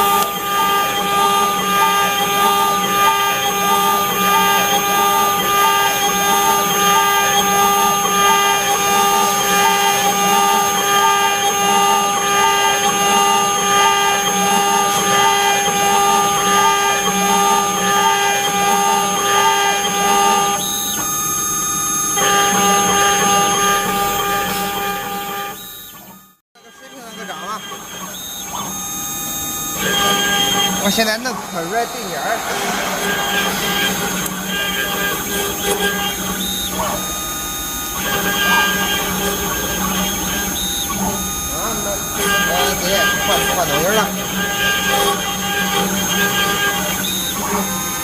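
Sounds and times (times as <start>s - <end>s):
cutter pulsing on metal: 0.0s - 48.0s
router spindle whine: 0.0s - 48.0s.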